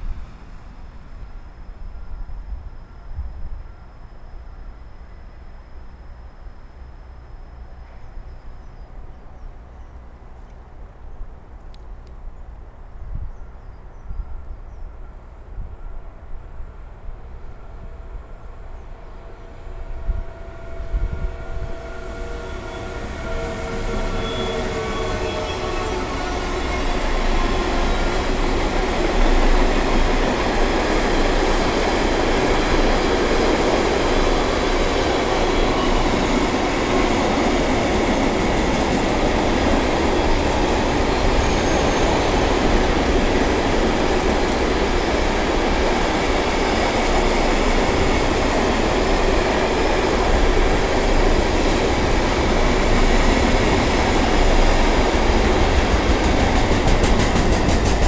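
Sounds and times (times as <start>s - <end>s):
freight train rolling past: 0.0s - 10.9s, 13.8s - 58.0s.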